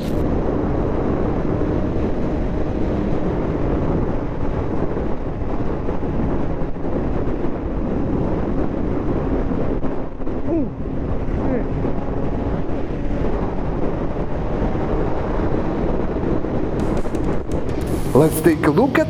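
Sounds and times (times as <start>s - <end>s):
wind noise on microphone: 0.0s - 18.2s.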